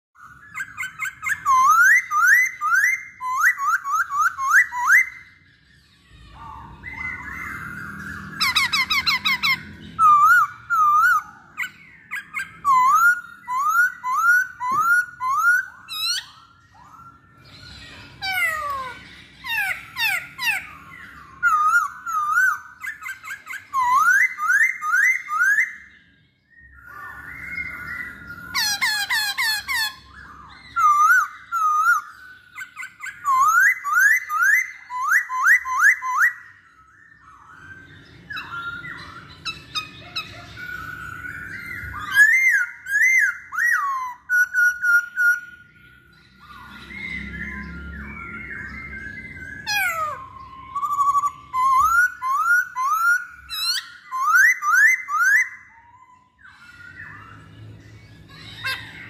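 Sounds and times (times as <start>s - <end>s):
bird singing rising whistles: 0.2s - 59.0s.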